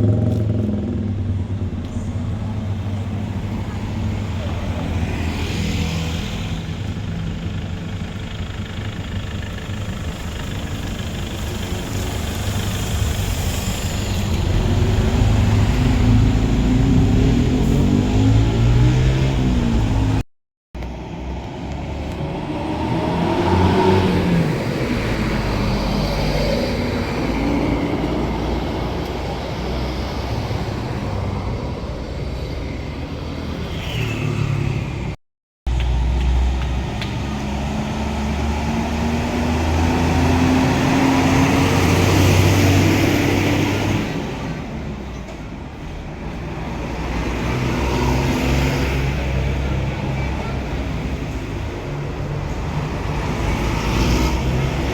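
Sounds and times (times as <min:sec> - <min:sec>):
buses pulling away: 0:00.0 - 0:20.2, 0:20.8 - 0:54.9
steady traffic noise: 0:00.0 - 0:20.2, 0:20.8 - 0:54.9.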